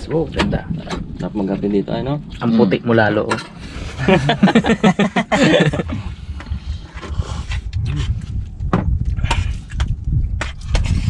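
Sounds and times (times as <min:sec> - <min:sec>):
low uneven rumble: 0:00.0 - 0:11.0.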